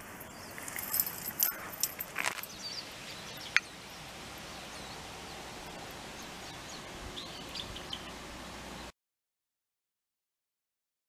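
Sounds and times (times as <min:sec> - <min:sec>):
outdoor background noise: 0:00.0 - 0:09.0.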